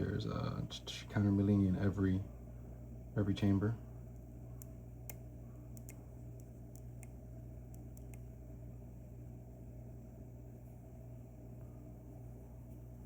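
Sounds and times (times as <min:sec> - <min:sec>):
room tone hum: 0:00.0 - 0:13.0.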